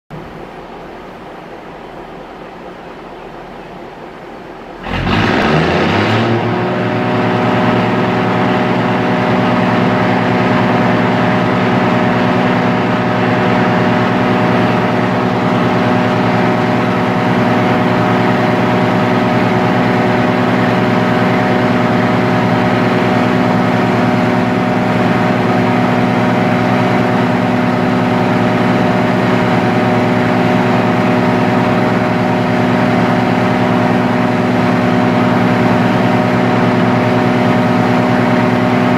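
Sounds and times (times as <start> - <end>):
diesel railcar engine revving: 4.6 - 38.9
loud engine exhaust: 4.8 - 38.9.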